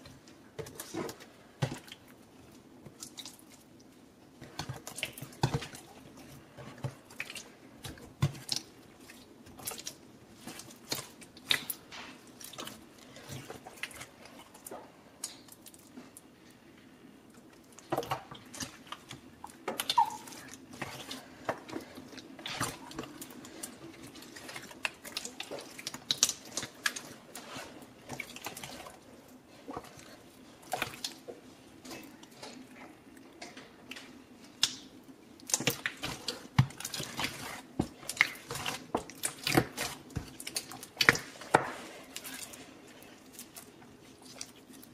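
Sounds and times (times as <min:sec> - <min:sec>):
slime squelching: 0:00.0 - 0:44.9.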